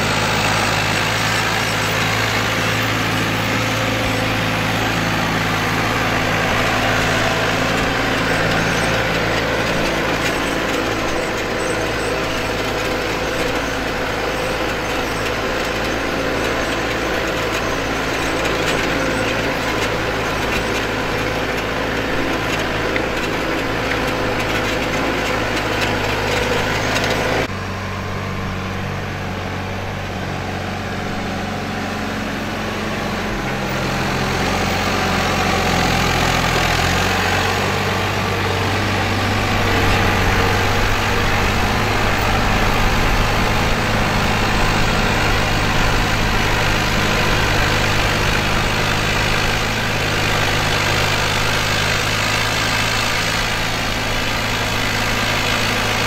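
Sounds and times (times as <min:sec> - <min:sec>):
plough rasping through soil: 0:00.0 - 0:27.6, 0:29.9 - 0:56.0
tractor diesel engine under load: 0:00.0 - 0:56.0.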